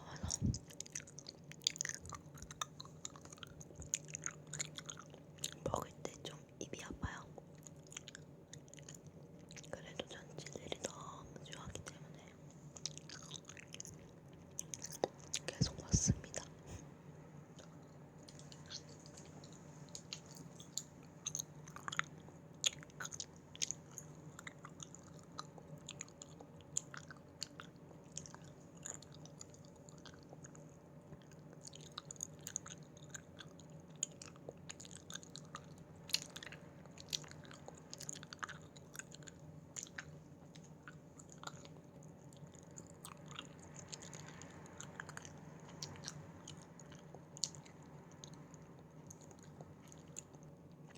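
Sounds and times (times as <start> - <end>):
chewing gummy candies: 0.0 - 16.8, 17.5 - 50.9
faint steady hum: 0.0 - 50.9.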